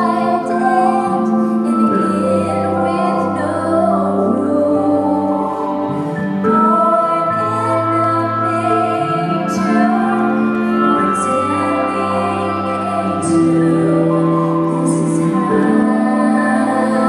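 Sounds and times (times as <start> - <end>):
slow tender music: 0.0 - 17.0.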